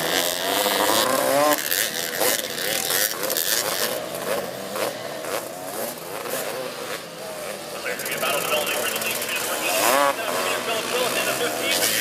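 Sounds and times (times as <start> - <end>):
racing engines revving: 0.0 - 12.0.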